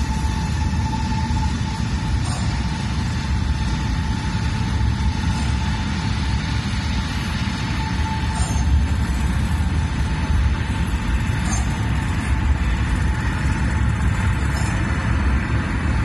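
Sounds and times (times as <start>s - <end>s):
deep rumbling drone: 0.0s - 16.0s.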